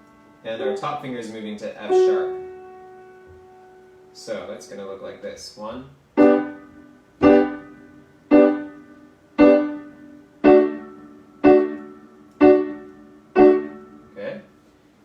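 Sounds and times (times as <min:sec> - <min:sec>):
keyboard chord: 0:00.0 - 0:04.3, 0:06.2 - 0:14.4.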